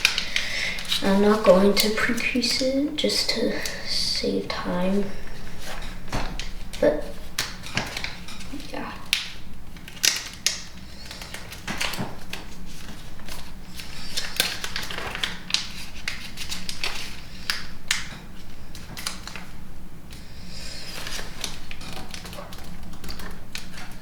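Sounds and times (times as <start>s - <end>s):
paper being folded and creased: 0.0s - 24.0s.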